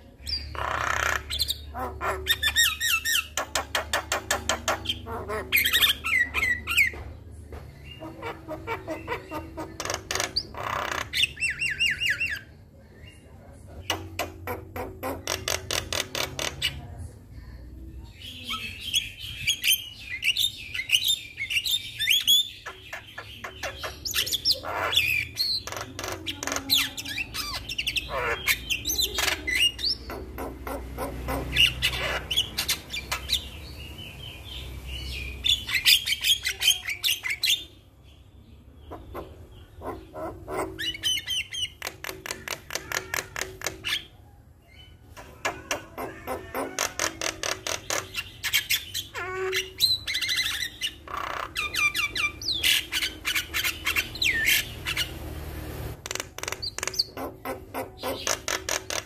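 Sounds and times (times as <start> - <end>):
bird singing chattering song: 0.0 - 17.0, 18.0 - 55.4, 56.0 - 59.0.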